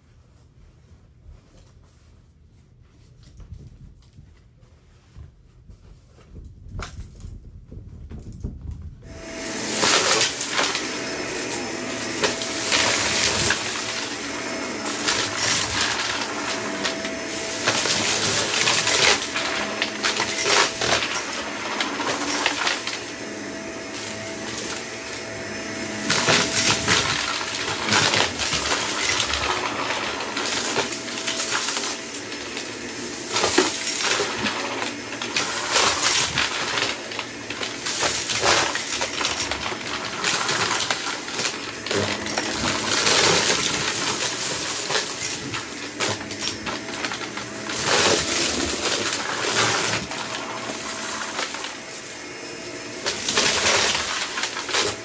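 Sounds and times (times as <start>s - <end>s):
vacuum cleaner motor hum: 9.0s - 55.0s
debris rattling into vacuum: 9.1s - 55.0s.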